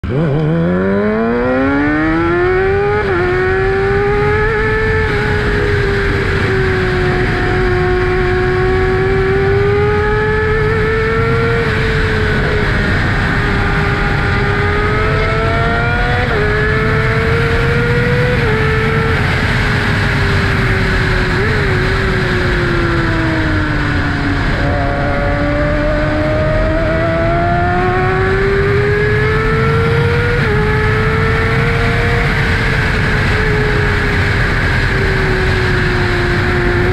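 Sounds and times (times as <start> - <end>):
motorcycle engine revving: 0.0 - 36.9
wind rushing over microphone: 0.0 - 36.9.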